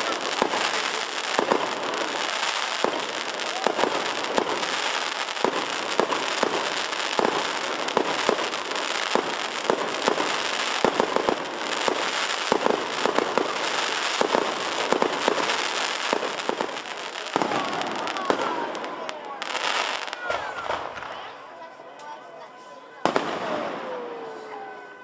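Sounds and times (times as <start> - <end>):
fireworks crackling and banging: 0.0 - 21.7, 23.0 - 24.2.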